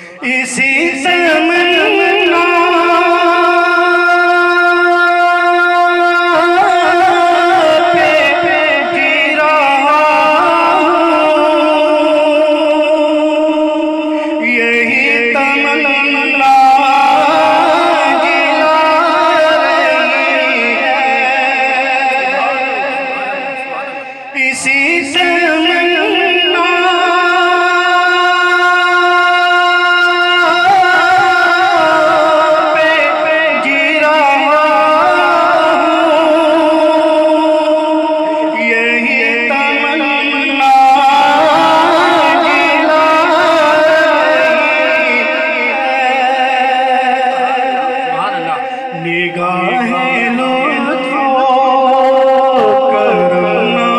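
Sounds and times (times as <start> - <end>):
man singing into a microphone: 0.0 - 53.9.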